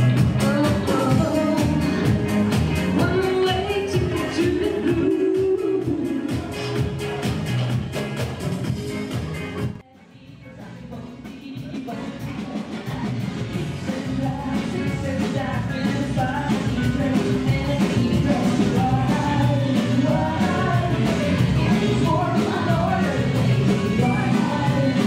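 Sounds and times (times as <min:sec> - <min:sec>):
dance music with singing: 0:00.0 - 0:25.0.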